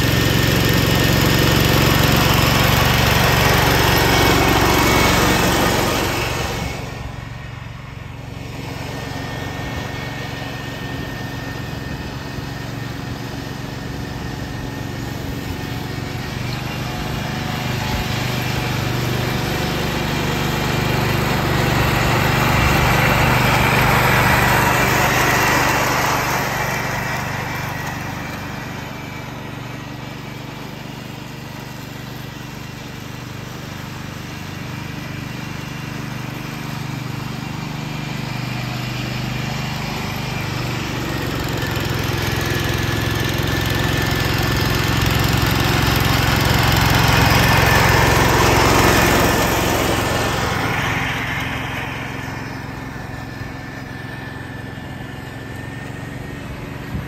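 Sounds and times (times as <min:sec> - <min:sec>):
mower mulching leaves: 0:00.0 - 0:57.0
tractor engine running: 0:00.0 - 0:57.0.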